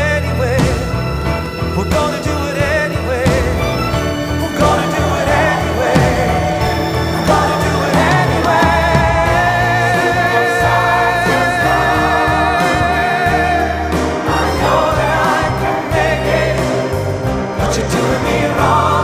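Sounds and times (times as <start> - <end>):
bass line: 0.0 - 19.0
person singing: 0.0 - 19.0
backing choir holding notes: 0.5 - 19.0.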